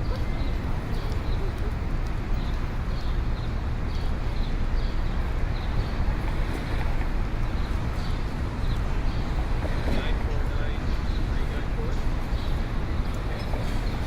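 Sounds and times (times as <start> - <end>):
crowd and street noise: 0.0 - 14.0
traffic rumble: 0.0 - 14.0.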